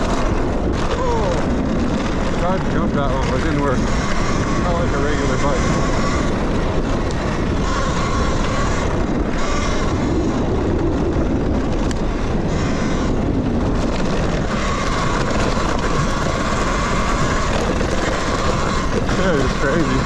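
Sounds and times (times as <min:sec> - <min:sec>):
electric motor whine: 0:00.0 - 0:20.0
wind rumble on microphone: 0:00.0 - 0:20.0.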